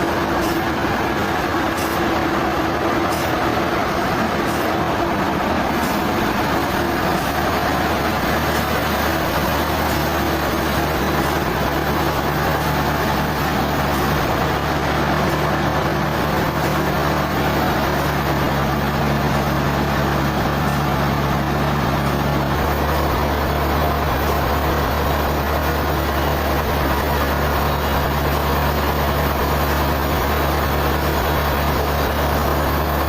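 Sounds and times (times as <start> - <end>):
sawmill machinery running: 0.0 - 33.0.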